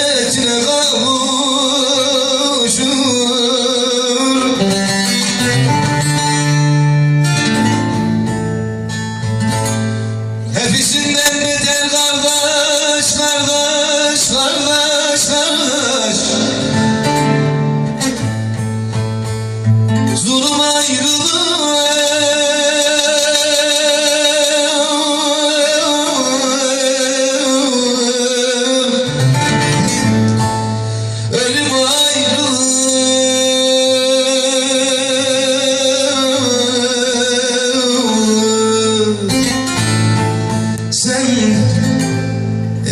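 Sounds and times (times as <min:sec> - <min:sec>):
baglama and acoustic guitar: 0:00.0 - 0:42.9.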